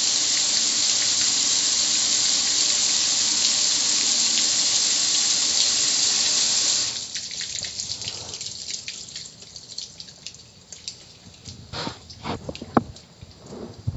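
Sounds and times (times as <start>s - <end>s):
water pouring over metal: 0.0s - 12.7s
water dripping and trickling: 0.0s - 13.9s.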